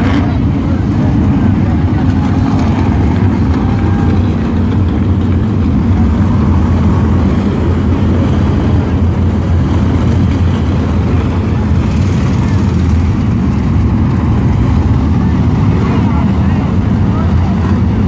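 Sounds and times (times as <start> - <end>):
race car engines droning: 0.0 - 18.0.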